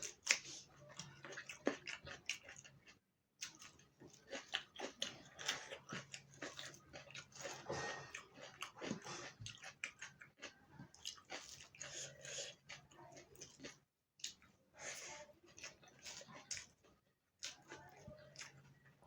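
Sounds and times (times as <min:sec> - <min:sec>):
chewing and biting food: 0:00.0 - 0:18.8.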